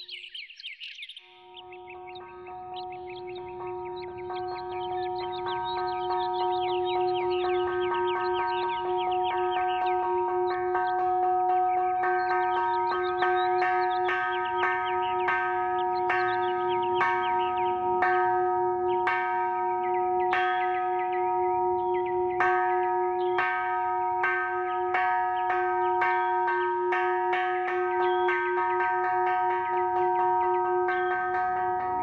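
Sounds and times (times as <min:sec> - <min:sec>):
bells struck ringing: 0:01.4 - 0:32.0.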